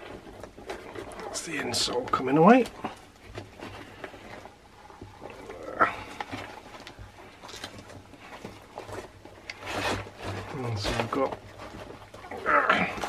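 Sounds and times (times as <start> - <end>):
boot lining crackling and tearing: 0.0 - 13.0.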